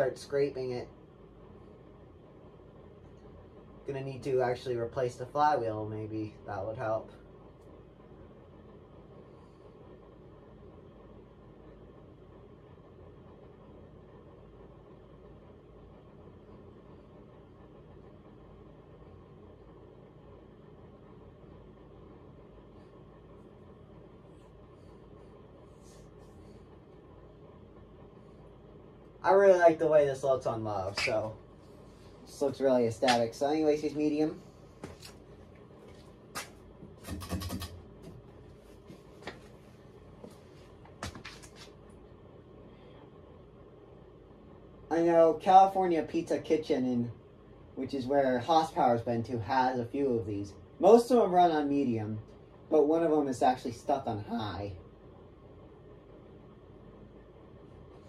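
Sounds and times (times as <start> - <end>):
ceiling fan humming and whirring: 0.0 - 58.0.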